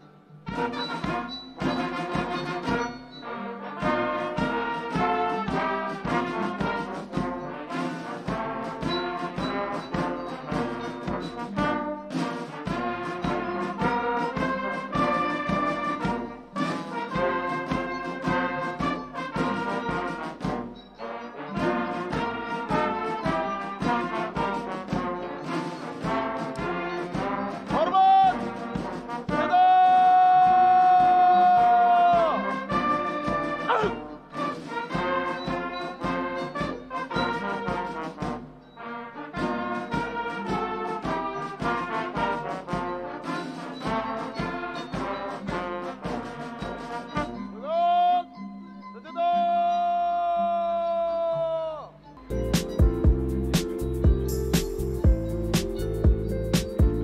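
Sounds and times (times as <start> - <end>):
brass band music: 0.0 - 48.4, 52.2 - 57.0.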